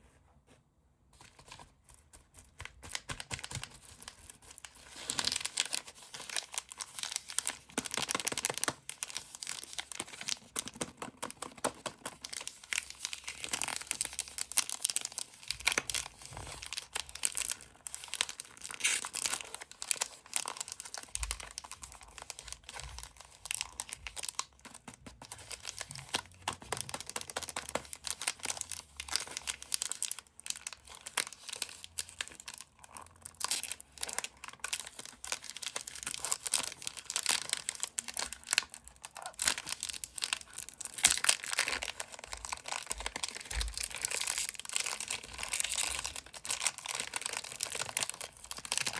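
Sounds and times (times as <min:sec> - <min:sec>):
plastic wrappers crumpling and tearing: 0:01.2 - 0:48.9.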